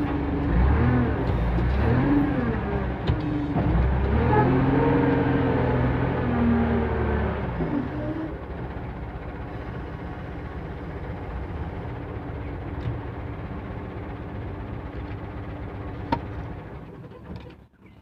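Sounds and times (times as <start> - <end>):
diesel engine running at low revs: 0.0 - 18.0.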